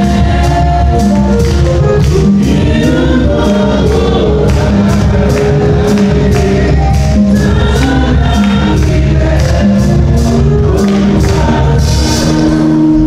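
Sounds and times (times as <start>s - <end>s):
church choir singing: 0.0s - 13.0s
percussion beat: 0.0s - 13.0s.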